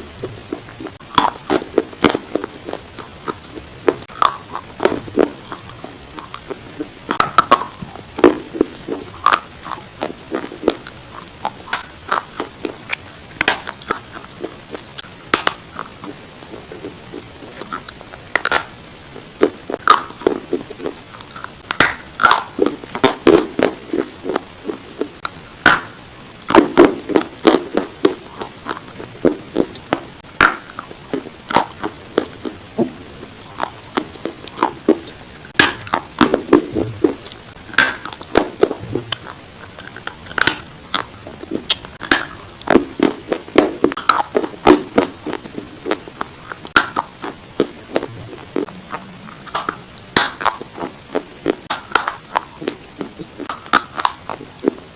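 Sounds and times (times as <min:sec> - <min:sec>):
dry clay being chewed: 0:00.0 - 0:54.9.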